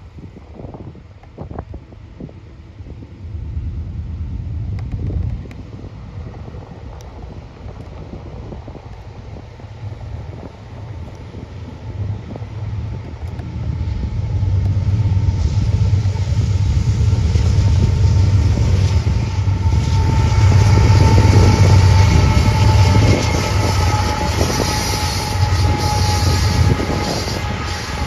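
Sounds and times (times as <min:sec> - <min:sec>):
diesel locomotives rumbling past: 0:00.0 - 0:28.0.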